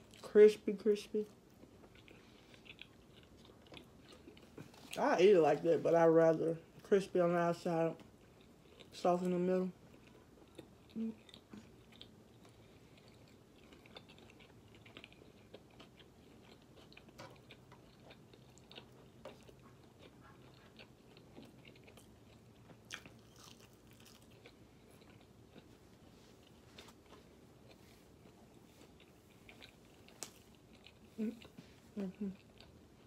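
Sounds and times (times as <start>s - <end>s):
chewing food: 0.0s - 33.0s.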